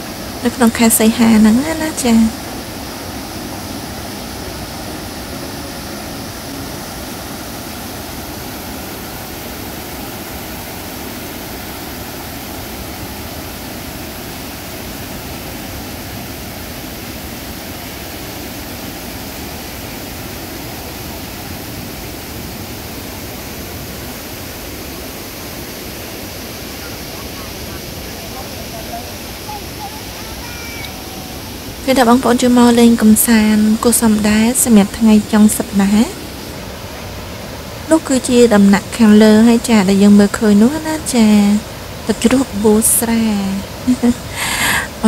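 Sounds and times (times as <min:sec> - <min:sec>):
river rapids: 0:00.0 - 0:45.0
waterfall roaring: 0:00.0 - 0:45.0.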